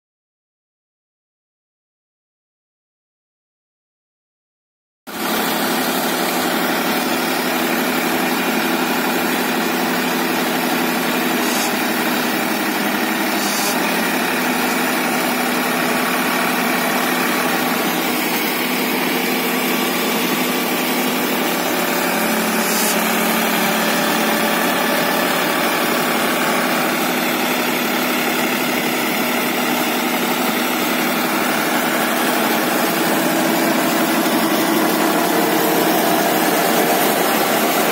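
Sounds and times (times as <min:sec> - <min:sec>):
tractor diesel engine running: 0:05.1 - 0:37.9.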